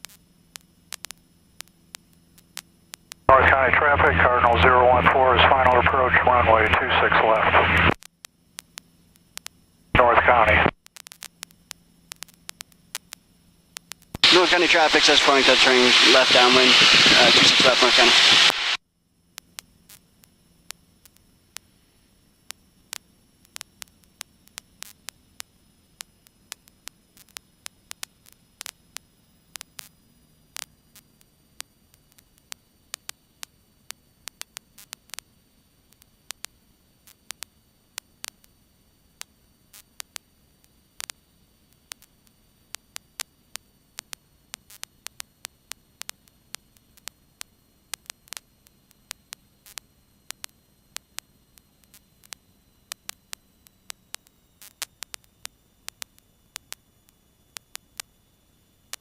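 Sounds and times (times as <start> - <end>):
faint hiss and hum: 0.0 - 59.0
radio static clicks and crackle: 0.0 - 59.0.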